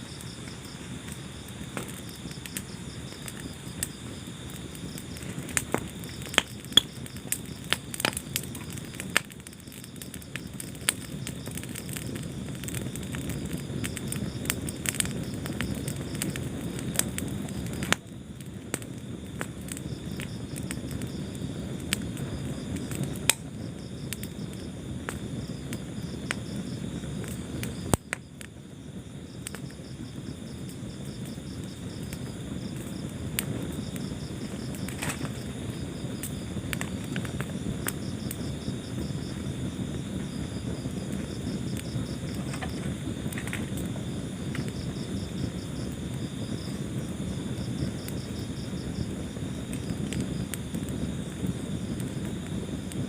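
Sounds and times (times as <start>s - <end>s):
crickets chirping: 0.0s - 53.0s
wood fire crackling: 0.0s - 53.0s.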